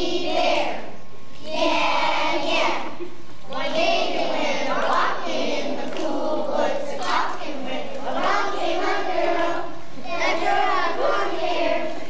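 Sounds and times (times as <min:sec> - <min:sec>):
children singing together: 0:00.0 - 0:12.0.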